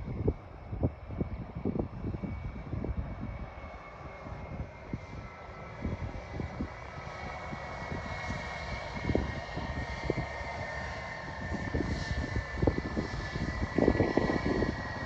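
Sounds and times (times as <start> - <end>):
airliner engines whining: 0.0 - 15.0
wind rumbling on microphone: 0.0 - 15.0.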